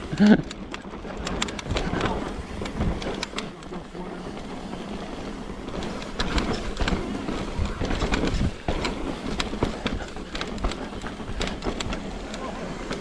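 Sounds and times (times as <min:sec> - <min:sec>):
bike clicks and rattles: 0:00.0 - 0:13.0
bike tyres rumbling on rock: 0:00.0 - 0:13.0.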